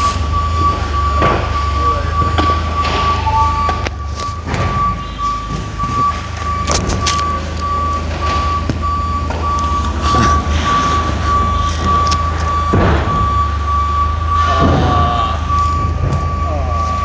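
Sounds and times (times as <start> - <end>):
forklift engine humming: 0.0 - 17.0
forklift reversing alarm beeps: 0.0 - 17.0.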